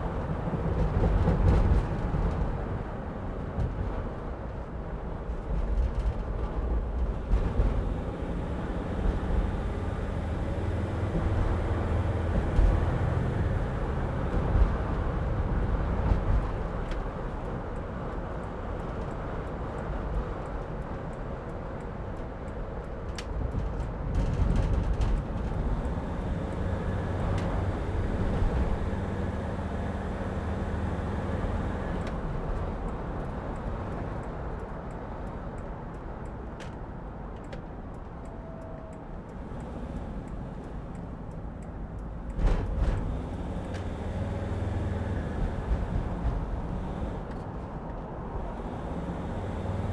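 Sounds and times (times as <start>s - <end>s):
van engine and road rumble: 0.0s - 49.9s
wind buffeting van: 0.0s - 49.9s.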